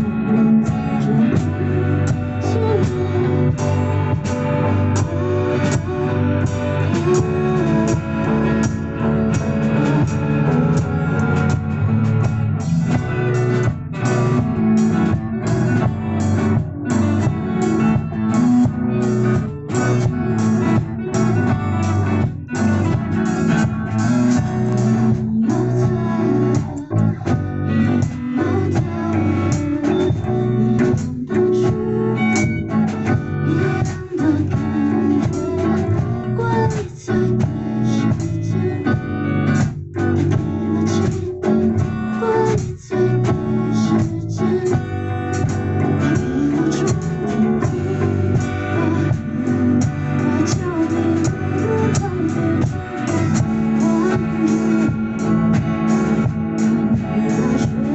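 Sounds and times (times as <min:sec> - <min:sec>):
instrumental rock band music: 0:00.0 - 0:57.9.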